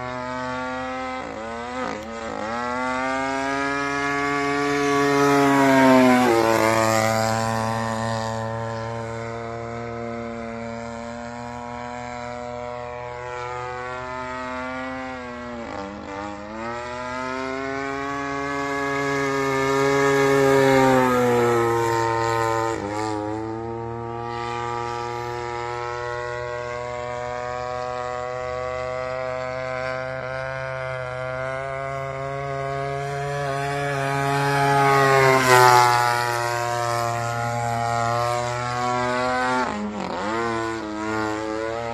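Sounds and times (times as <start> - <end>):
model plane engine droning: 0.0 - 41.9.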